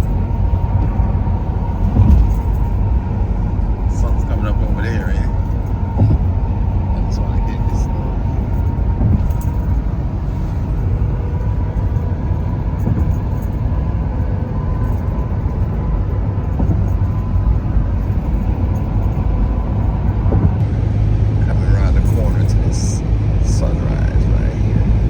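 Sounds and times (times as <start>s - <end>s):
faint steady whine: 0.0s - 25.0s
tyre and engine rumble: 0.0s - 25.0s.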